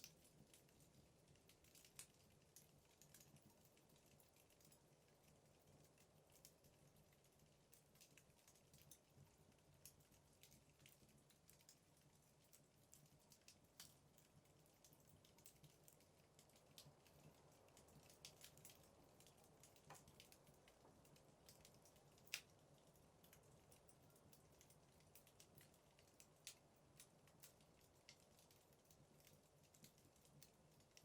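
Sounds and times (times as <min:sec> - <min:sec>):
firewood crackling in fireplace: 0:00.0 - 0:31.0.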